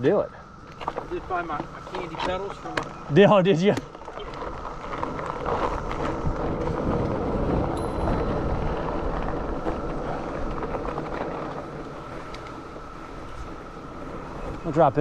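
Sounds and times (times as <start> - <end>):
bike tyre rumble on dirt: 0.0 - 15.0
cicada drone: 0.0 - 15.0
wind buffeting microphone: 0.5 - 15.0.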